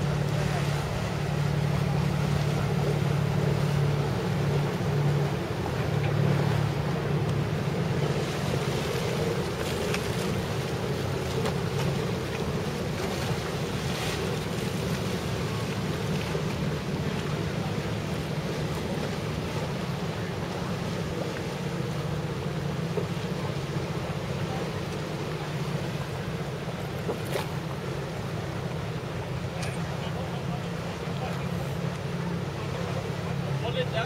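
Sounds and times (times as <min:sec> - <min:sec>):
boat engine drone: 0:00.0 - 0:34.0.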